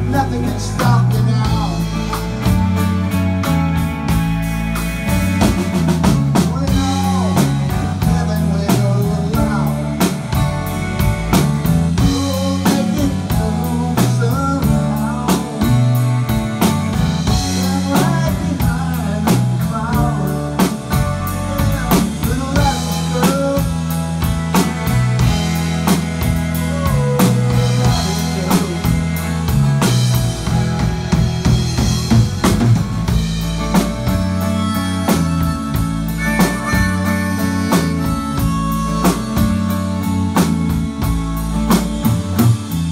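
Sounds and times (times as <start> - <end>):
bass guitar: 0.0 - 42.9
drum kit beat: 0.0 - 42.9
electric guitar lead: 0.0 - 42.9.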